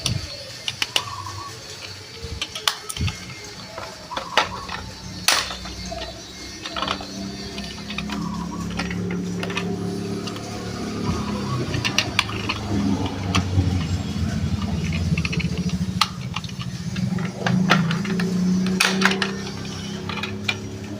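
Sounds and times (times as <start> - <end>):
toy buses rolling and rattling: 0.0 - 20.9.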